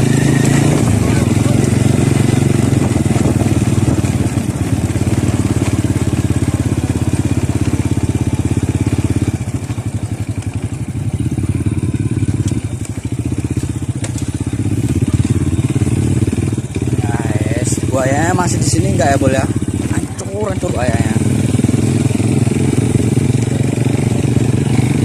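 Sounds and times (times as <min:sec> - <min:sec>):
motorcycle engine throbbing: 0:00.0 - 0:25.0.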